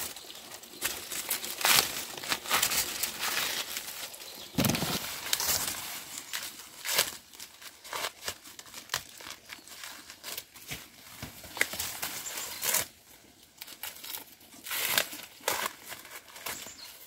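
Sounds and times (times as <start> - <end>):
dry plant material rustling: 0.0 - 17.0
sharp snaps and tearing: 0.8 - 13.0, 13.6 - 17.0.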